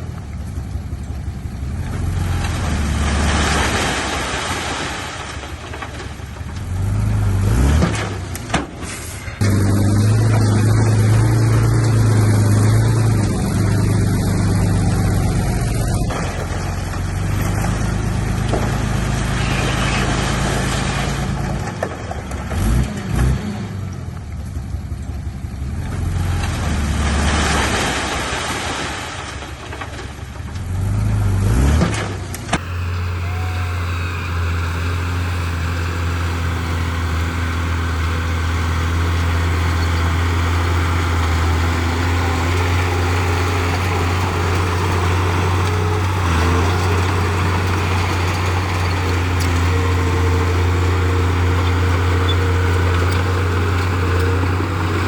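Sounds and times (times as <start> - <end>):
bulldozer diesel engine running: 0.0 - 22.8, 32.2 - 55.0.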